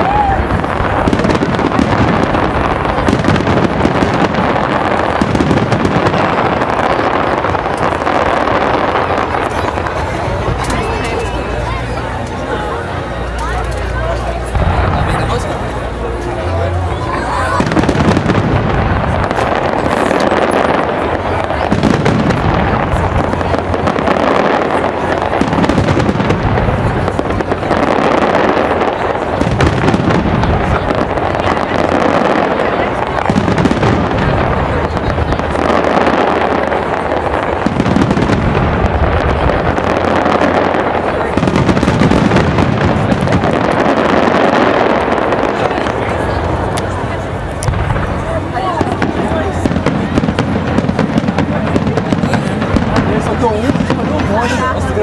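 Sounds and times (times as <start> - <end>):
fireworks crackling and popping: 0.0 - 55.0
fireworks rumble: 0.0 - 55.0.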